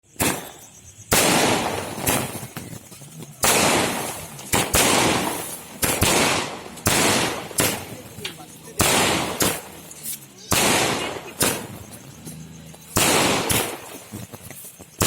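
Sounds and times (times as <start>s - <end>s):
firecrackers bursting: 0.0s - 15.0s.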